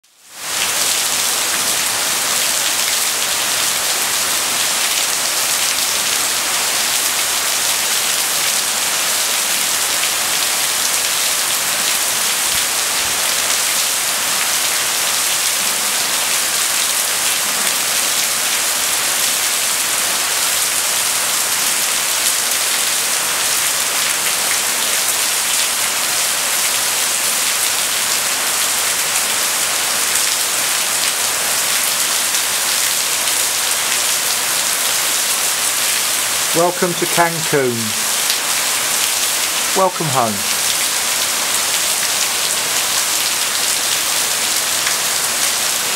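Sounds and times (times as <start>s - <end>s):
heavy rain on foliage: 0.0s - 45.9s.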